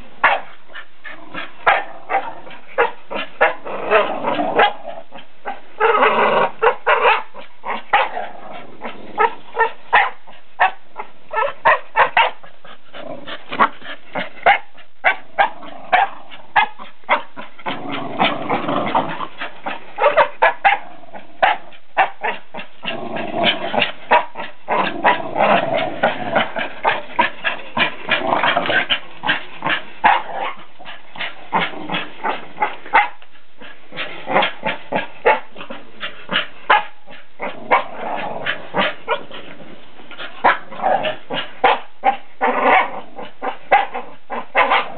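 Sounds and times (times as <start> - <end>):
dogs growling: 0.0 - 44.9.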